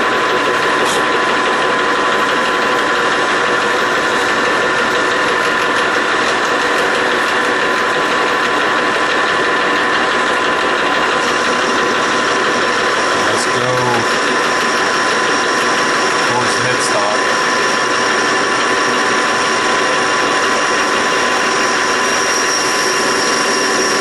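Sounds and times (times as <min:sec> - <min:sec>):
metal lathe whining: 0:00.0 - 0:24.0.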